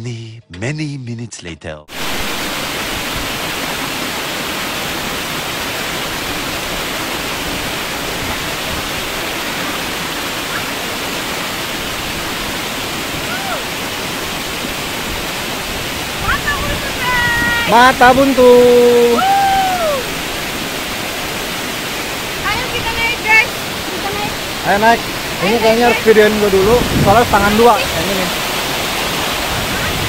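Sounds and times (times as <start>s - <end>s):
waterfall rushing: 1.9s - 30.0s.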